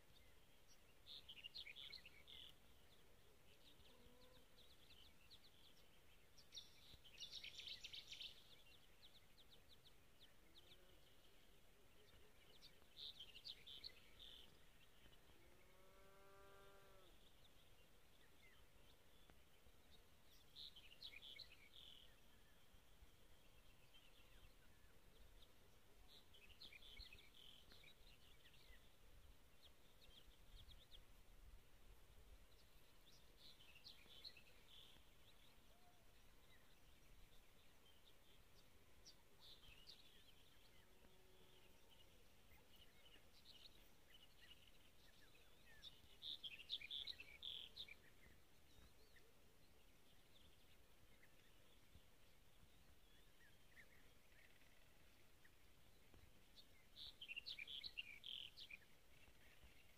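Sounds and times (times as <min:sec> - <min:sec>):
faint birdsong chirping: 0:00.0 - 0:59.9.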